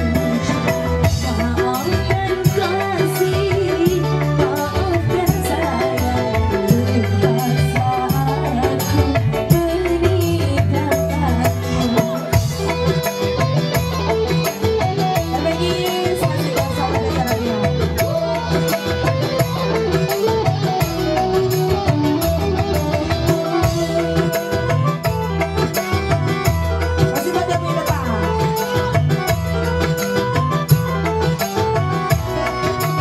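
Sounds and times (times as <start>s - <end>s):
drums with a steady beat: 0.0s - 33.0s
electronic keyboard: 0.0s - 33.0s
woman singing into a microphone: 0.0s - 33.0s.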